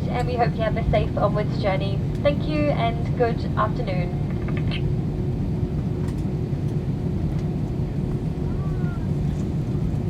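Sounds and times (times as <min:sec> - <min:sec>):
aircraft cabin rumble: 0:00.0 - 0:10.0
constant hum: 0:00.0 - 0:10.0.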